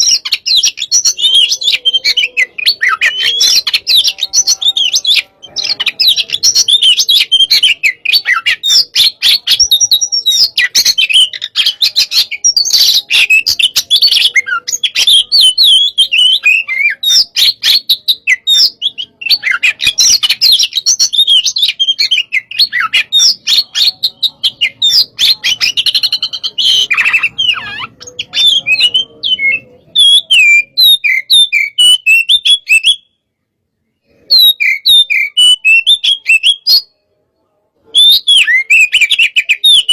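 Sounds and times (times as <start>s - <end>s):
bird chirping and whistling: 0.0s - 33.1s, 34.1s - 36.9s, 37.9s - 39.9s.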